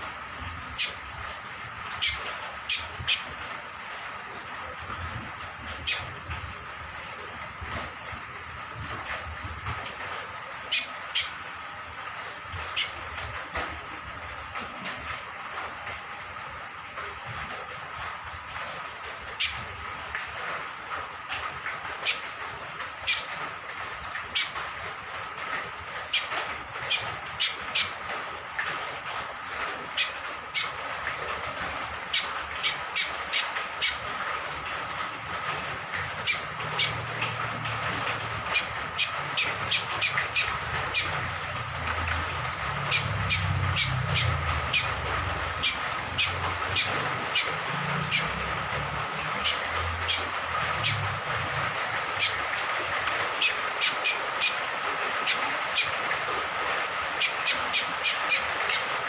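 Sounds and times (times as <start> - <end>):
rain hissing: 0.0 - 59.0.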